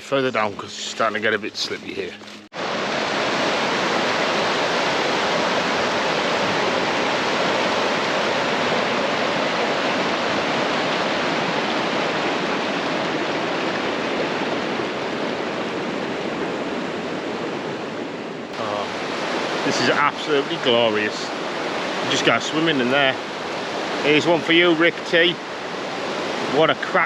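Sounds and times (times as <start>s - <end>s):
river water rushing: 2.2s - 27.0s.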